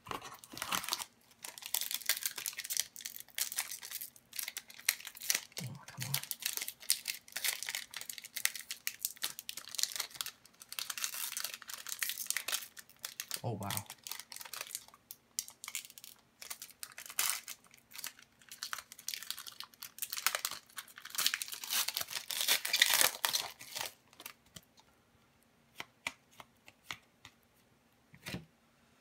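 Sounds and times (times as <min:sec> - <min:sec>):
foil wrapper crinkling and tearing: 0:00.1 - 0:24.7.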